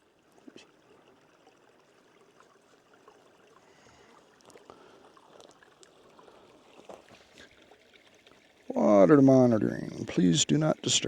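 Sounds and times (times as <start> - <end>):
stream trickling faintly: 0.0 - 11.0.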